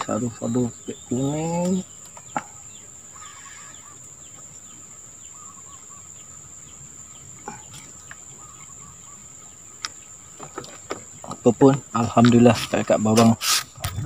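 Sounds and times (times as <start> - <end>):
faint bird calls: 0.0 - 13.9
insects droning: 0.0 - 14.0.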